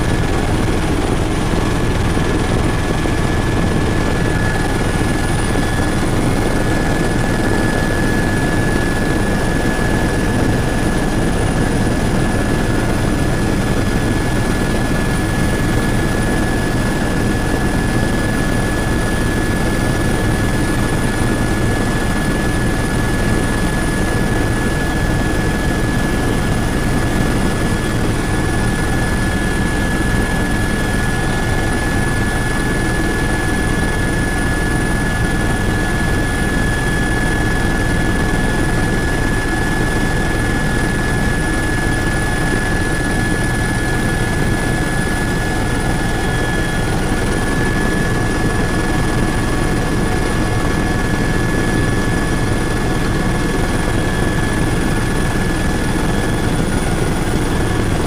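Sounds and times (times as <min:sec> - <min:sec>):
constant high whine: 0:00.0 - 0:58.0
helicopter engine and rotor drone: 0:00.0 - 0:58.0.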